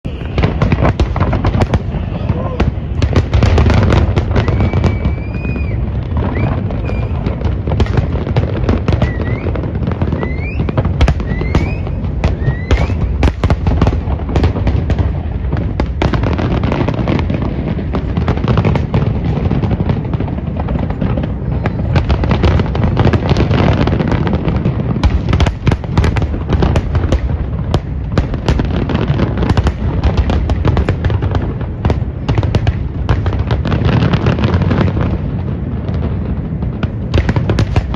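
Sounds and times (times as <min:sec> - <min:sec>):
rising firework whistles: 0:00.0 - 0:31.0
fireworks bangs and crackling: 0:00.0 - 0:37.9.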